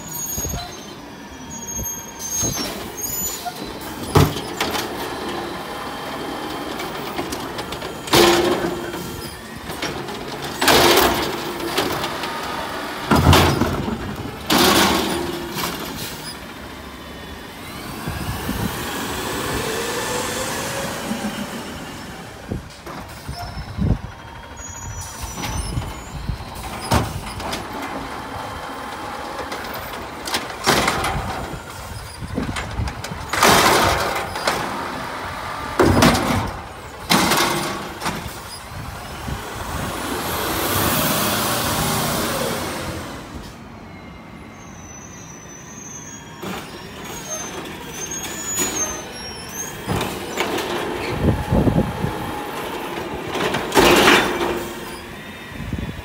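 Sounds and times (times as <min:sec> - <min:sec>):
garbage truck engine running: 0:02.4 - 0:44.4, 0:46.4 - 0:56.0.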